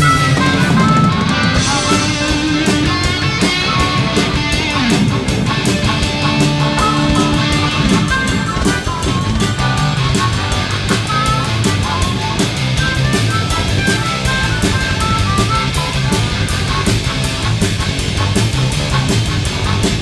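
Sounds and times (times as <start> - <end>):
harmonica through microphone: 0.0 - 20.0
live rock band playing: 0.0 - 20.0.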